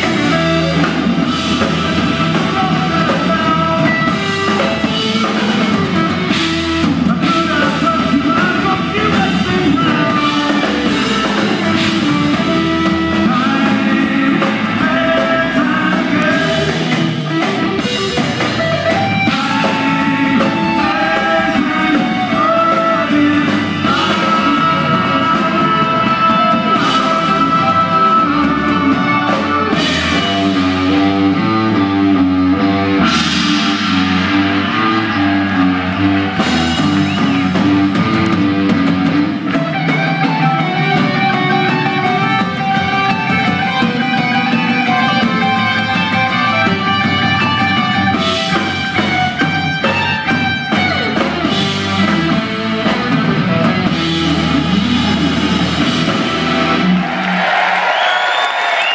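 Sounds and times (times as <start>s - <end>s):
drum kit: 0.0s - 58.9s
electric guitars: 0.0s - 58.9s.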